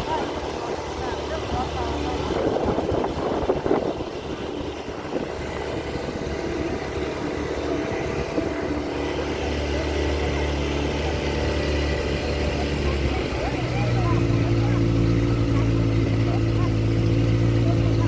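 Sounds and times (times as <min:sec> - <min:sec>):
boat motor droning: 0:00.0 - 0:18.0.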